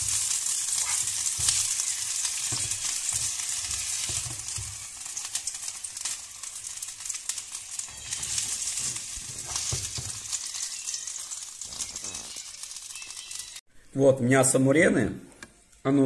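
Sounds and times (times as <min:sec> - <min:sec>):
fish sizzling in oil: 0:00.0 - 0:13.6.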